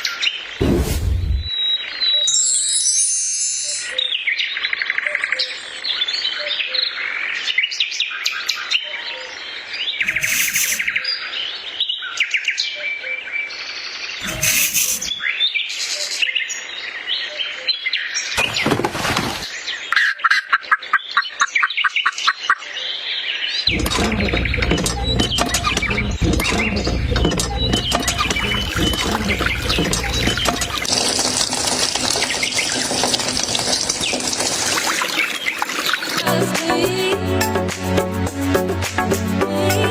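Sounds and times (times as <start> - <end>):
birds chirping and trilling: 1.3 - 36.2.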